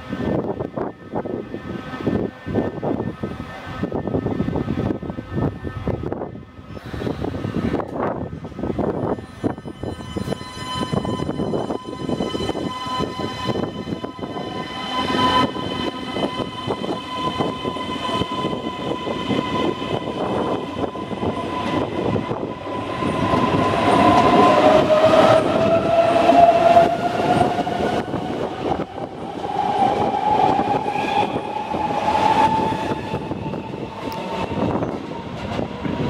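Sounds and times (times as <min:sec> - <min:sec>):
train rumble: 0:00.0 - 0:36.0.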